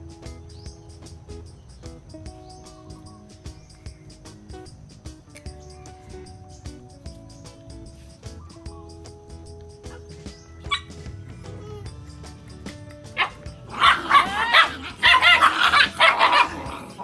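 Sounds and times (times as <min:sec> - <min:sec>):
background music: 0:00.0 - 0:17.0
puppies yipping and barking: 0:00.0 - 0:17.0.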